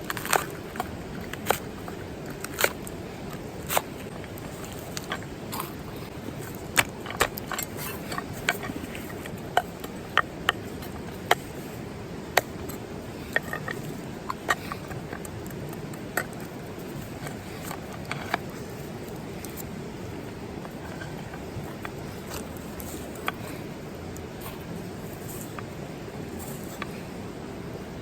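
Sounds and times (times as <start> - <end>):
campfire crackling and popping: 0.0 - 27.1
low rushing background: 0.0 - 28.0.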